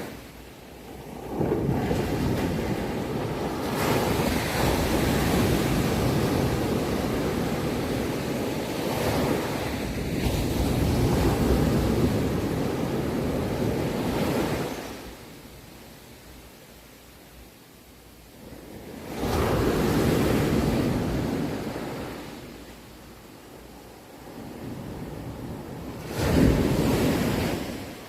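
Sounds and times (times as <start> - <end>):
ocean waves breaking: 0.0 - 15.2, 18.7 - 22.7, 24.2 - 28.0.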